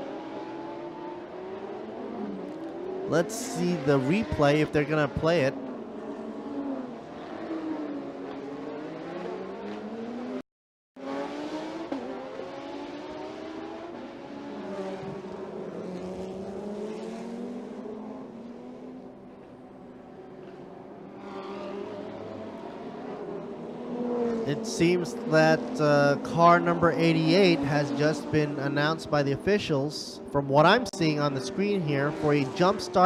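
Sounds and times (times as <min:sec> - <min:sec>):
race car engines revving: 0:00.0 - 0:10.4, 0:11.0 - 0:33.0.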